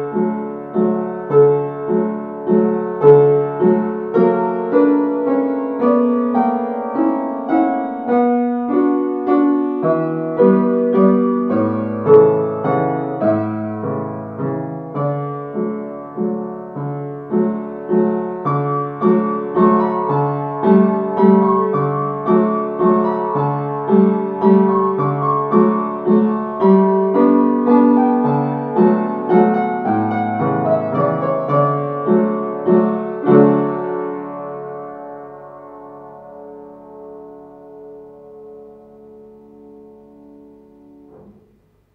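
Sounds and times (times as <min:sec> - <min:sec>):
upright piano melody: 0:00.0 - 0:41.9.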